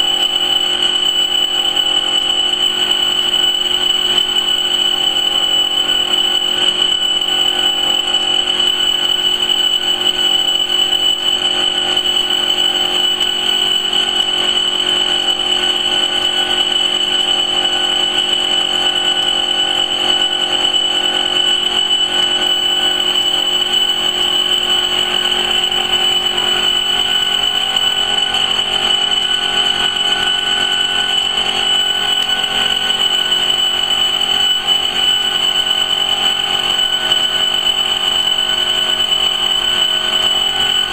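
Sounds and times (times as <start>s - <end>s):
laser cutting machine whine: 0.0s - 40.9s.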